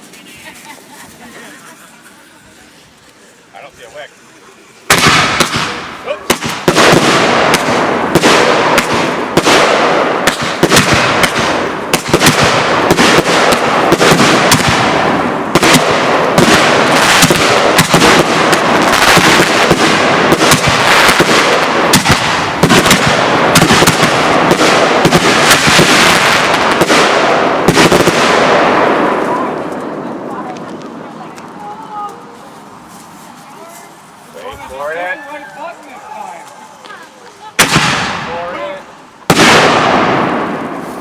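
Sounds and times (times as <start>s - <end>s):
fireworks bangs and crackling: 4.8s - 41.0s.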